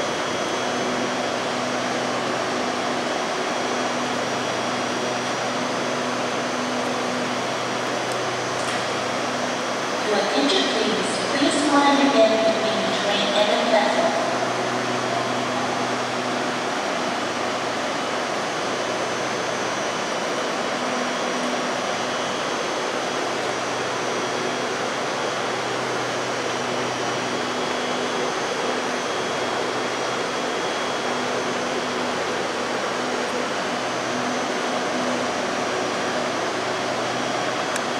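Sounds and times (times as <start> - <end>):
electric train hissing and humming: 0.0 - 37.9.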